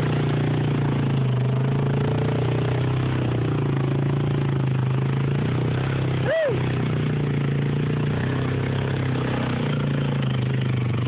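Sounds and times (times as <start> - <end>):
atv engine running: 0.0 - 11.0
vehicle wading through water: 0.0 - 11.0.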